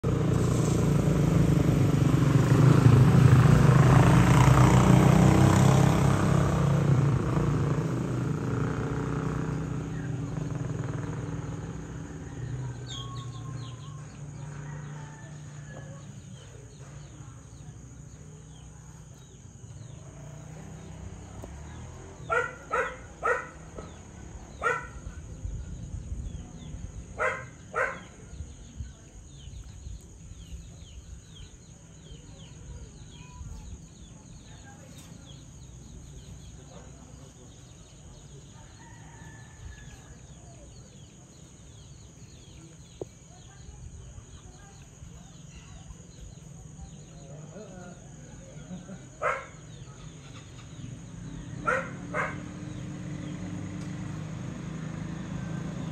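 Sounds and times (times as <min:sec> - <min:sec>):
engine: 0:00.0 - 0:55.9
small birds chirping: 0:06.6 - 0:55.9.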